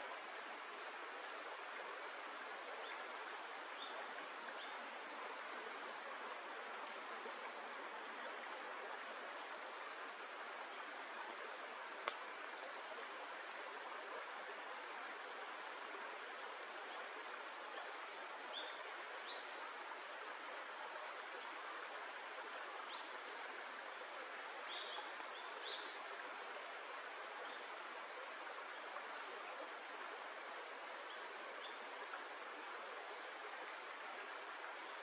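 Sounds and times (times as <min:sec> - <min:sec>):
stream flowing: 0:00.0 - 0:35.0.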